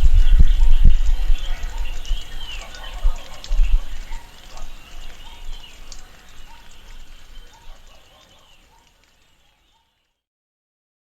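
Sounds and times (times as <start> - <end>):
birds chirping: 0.0 - 10.1
faint background noise: 0.0 - 10.1.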